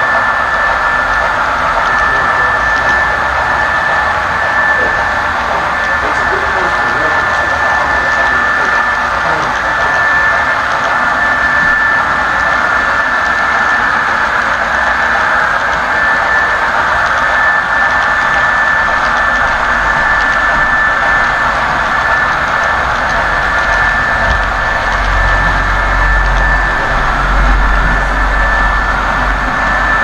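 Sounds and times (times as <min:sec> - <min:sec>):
high whine: 0:00.0 - 0:30.0.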